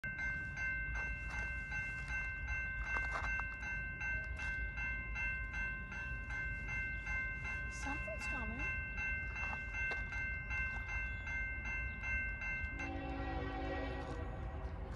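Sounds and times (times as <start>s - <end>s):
crossing warning bell ringing: 0.0s - 14.9s.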